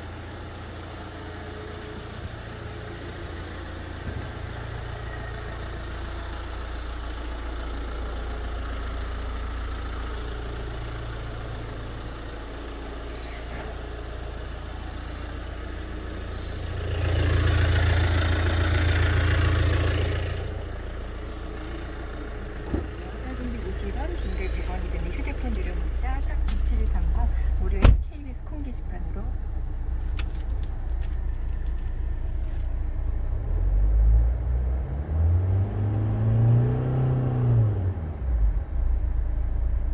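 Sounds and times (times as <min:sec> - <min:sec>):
car engine idling: 0:00.0 - 0:34.1, 0:37.8 - 0:39.9.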